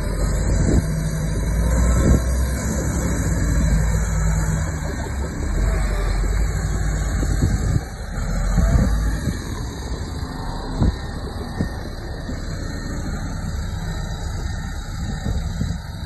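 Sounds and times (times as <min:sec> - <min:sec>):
diesel earthmoving machine rumbling: 0:00.0 - 0:16.0.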